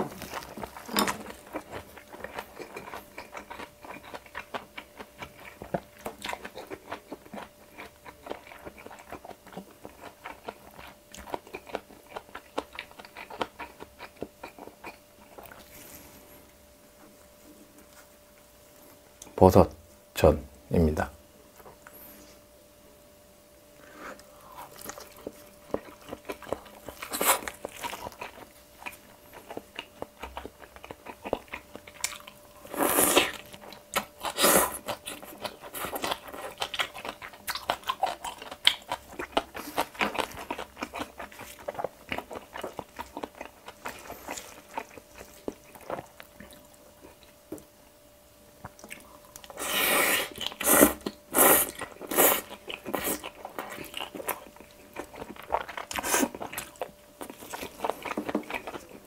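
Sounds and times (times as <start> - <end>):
wet chewing sounds: 0.0 - 16.1, 23.9 - 47.7, 48.6 - 59.0.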